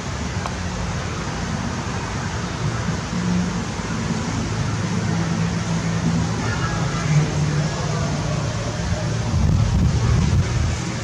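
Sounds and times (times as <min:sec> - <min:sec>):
passing cars: 0:00.0 - 0:11.0.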